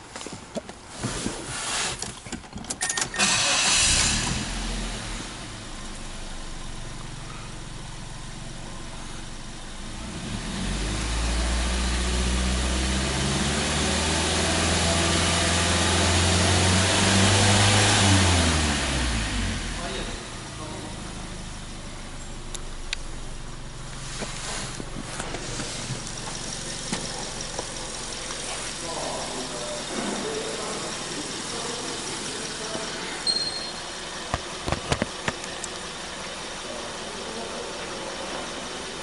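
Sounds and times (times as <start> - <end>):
car engine starting and running: 2.2 - 39.0.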